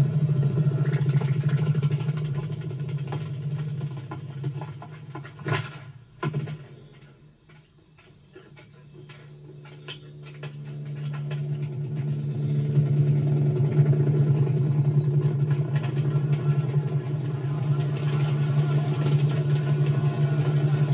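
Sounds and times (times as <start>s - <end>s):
low droning hum: 0.0s - 20.9s.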